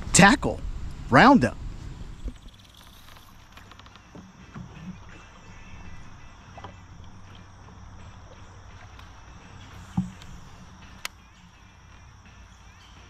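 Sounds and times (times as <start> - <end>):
insects droning: 0.1 - 13.0.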